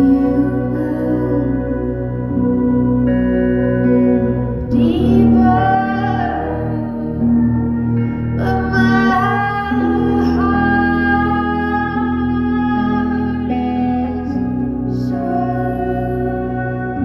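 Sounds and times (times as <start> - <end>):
woman singing: 0.0 - 3.2, 3.9 - 17.0.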